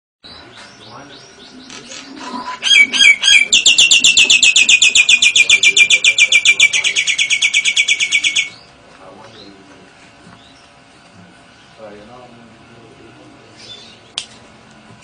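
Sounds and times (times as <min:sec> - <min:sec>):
cage bird singing: 0:00.2 - 0:12.1, 0:13.4 - 0:14.2.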